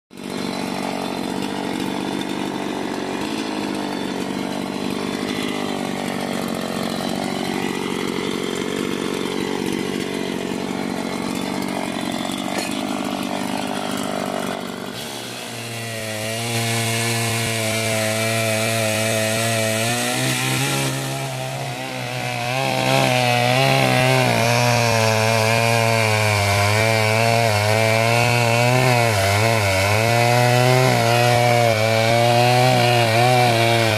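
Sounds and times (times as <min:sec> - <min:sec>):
chainsaw cutting log: 0:00.1 - 0:33.9.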